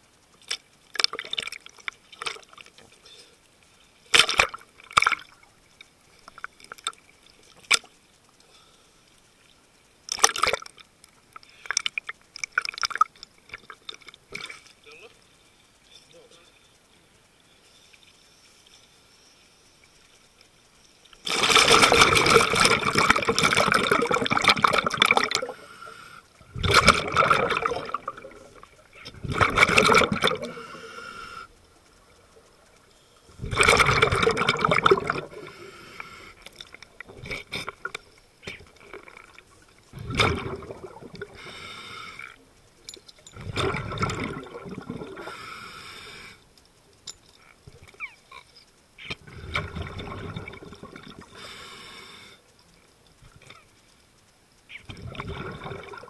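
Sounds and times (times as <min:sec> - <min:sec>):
scuba bubbles underwater: 0:00.0 - 0:56.0.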